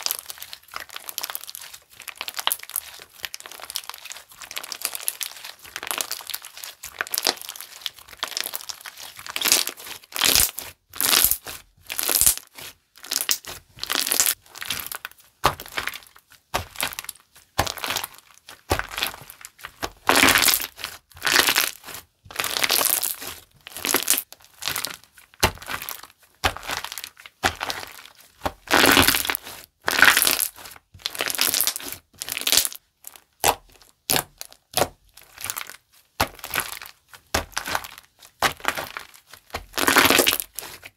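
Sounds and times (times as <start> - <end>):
slime squishing and popping: 0.0 - 32.8, 33.4 - 40.8.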